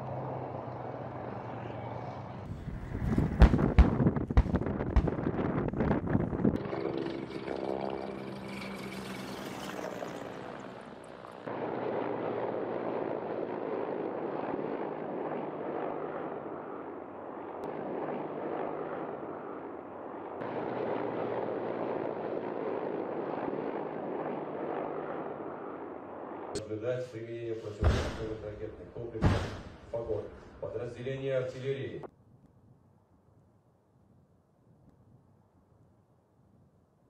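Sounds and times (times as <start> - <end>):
helicopter rotor and turbine noise: 0.0 - 32.1.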